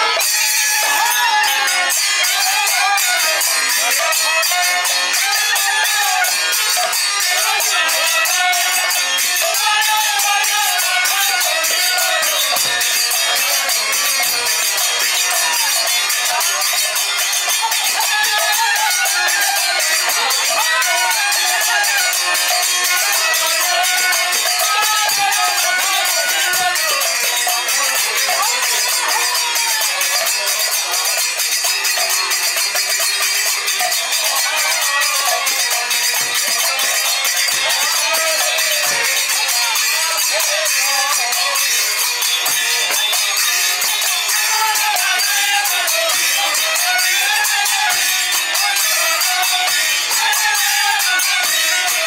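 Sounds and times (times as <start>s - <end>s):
hand cymbals jingling: 0.0s - 52.0s.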